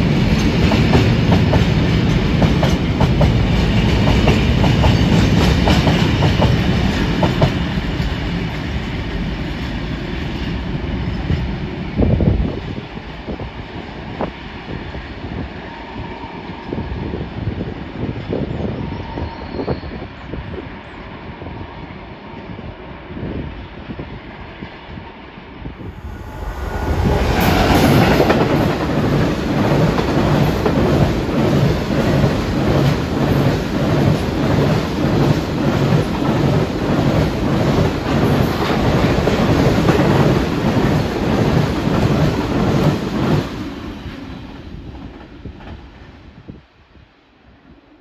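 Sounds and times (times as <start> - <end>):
freight train passing: 0.0 - 48.0.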